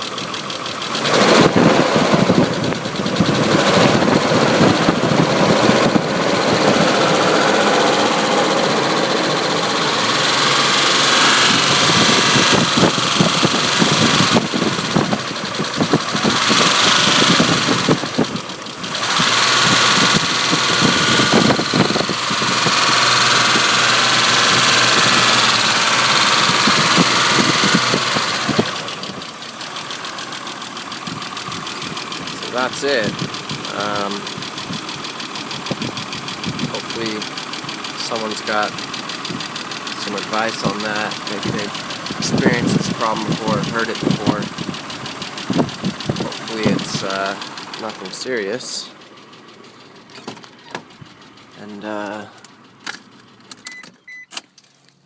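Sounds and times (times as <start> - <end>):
car engine revving: 0.0 - 53.5.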